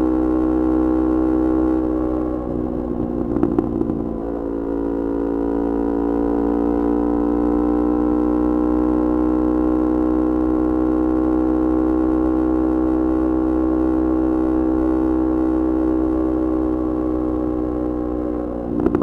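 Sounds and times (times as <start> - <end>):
motorcycle engine at steady revs: 0.0 - 19.0.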